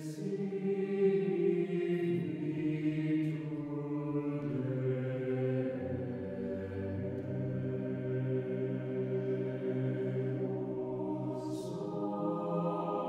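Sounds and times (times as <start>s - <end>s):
choir chanting held chords: 0.0s - 13.0s.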